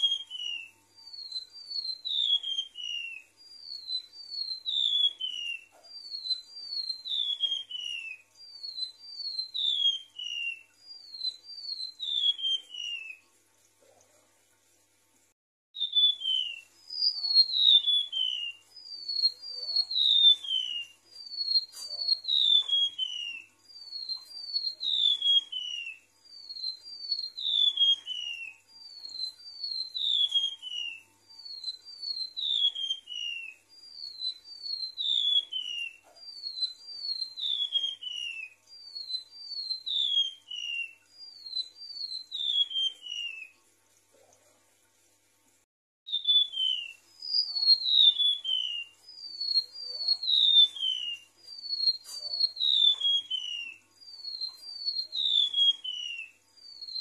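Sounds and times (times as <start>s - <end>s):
bird singing falling whistle: 0.0s - 13.2s, 15.8s - 43.5s, 46.1s - 57.0s.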